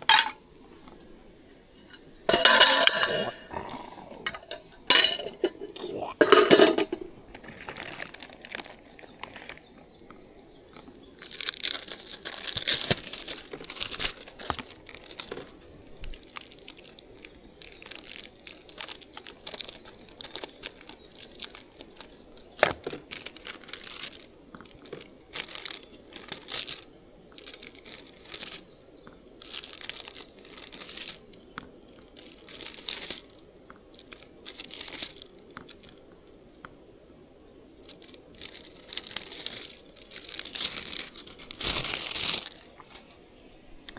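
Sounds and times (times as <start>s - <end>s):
rustling and crinkling: 0.0s - 36.7s, 37.7s - 43.7s.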